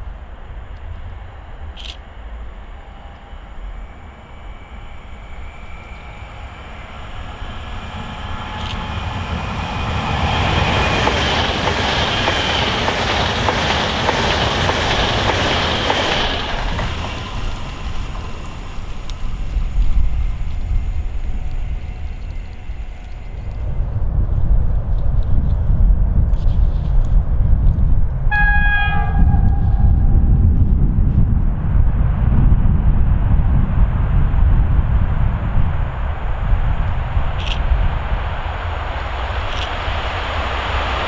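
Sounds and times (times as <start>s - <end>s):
electric train passing: 0.0s - 25.8s, 28.2s - 41.0s
low rumble: 0.0s - 41.0s.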